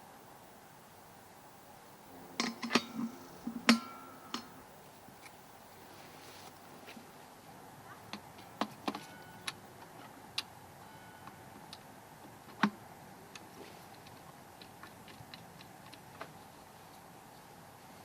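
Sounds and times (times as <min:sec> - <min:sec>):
low steady background noise: 0:00.0 - 0:18.0.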